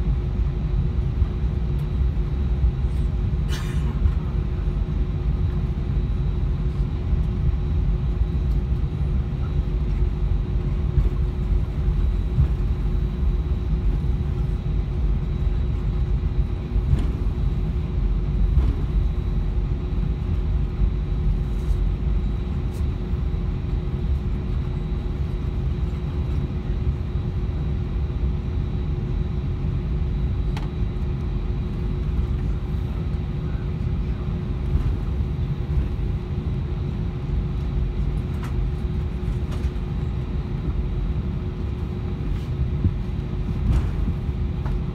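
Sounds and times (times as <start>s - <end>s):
constant hum: 0.0s - 44.9s
jet engines idling rumble: 0.0s - 44.9s.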